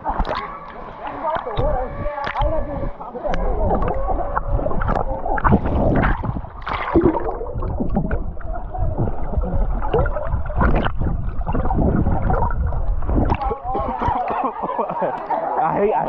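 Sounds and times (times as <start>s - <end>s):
water sloshing and gurgling: 0.0s - 16.0s.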